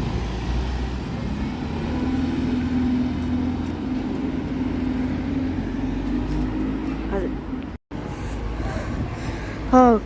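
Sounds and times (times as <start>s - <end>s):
bus engine humming: 0.0s - 10.0s.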